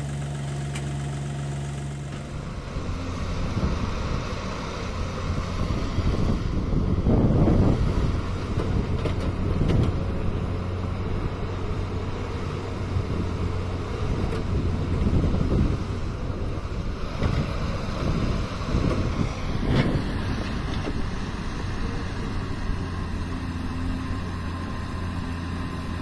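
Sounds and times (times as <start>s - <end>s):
excavator diesel engine humming: 0.0s - 26.0s
wind buffeting microphone: 2.4s - 24.4s.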